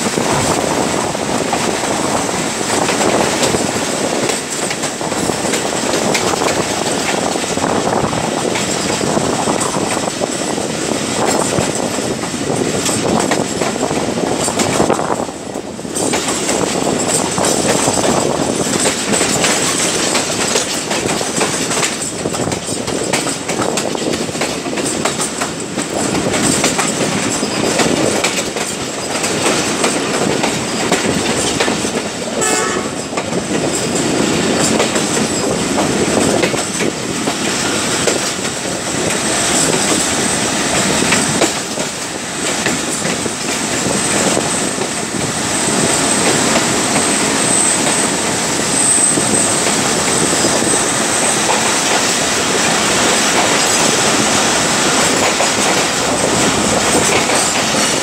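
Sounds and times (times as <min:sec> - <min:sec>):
train rumbling on track: 0:00.0 - 0:58.0
wheels clattering over rail joints: 0:00.0 - 0:58.0.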